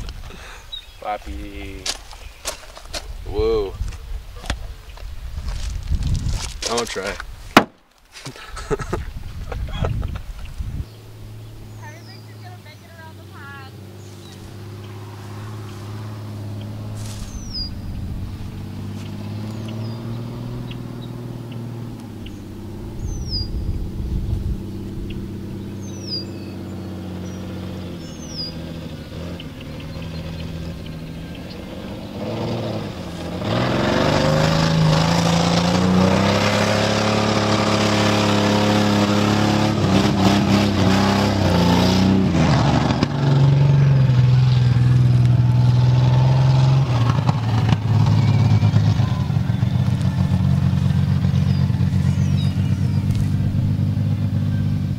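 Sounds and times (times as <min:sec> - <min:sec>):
truck engine revving: 0:10.6 - 0:54.9.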